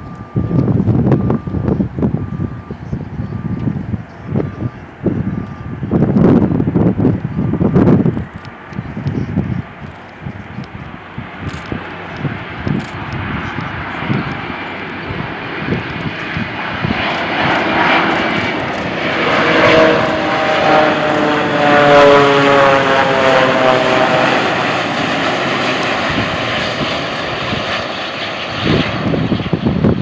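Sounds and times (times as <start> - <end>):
jet engines flying past: 0.0 - 30.0.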